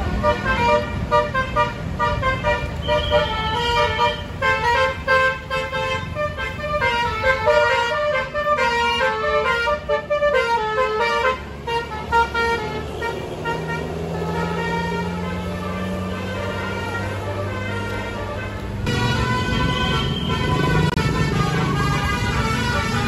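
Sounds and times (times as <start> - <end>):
bus air horn playing a tune: 0.0 - 23.0
bus engine running: 0.0 - 23.0.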